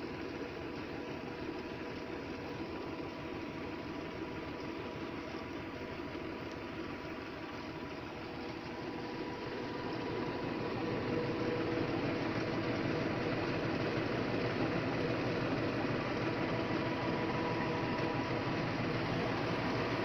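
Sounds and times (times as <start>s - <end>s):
sprayer pump droning: 0.0s - 20.0s
tractor engine running: 0.0s - 20.0s.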